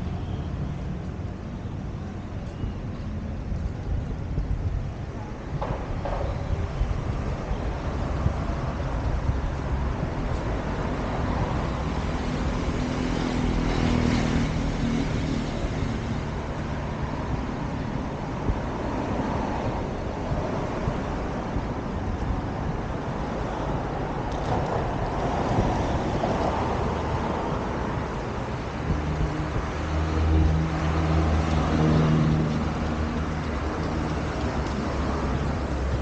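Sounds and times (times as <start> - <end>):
traffic passing: 0.0 - 36.0.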